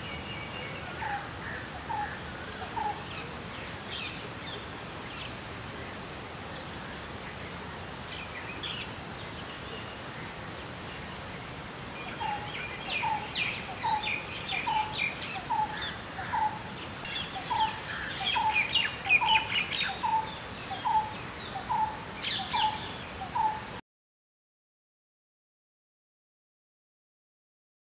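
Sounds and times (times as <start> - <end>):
small birds chirping: 0.0 - 23.7.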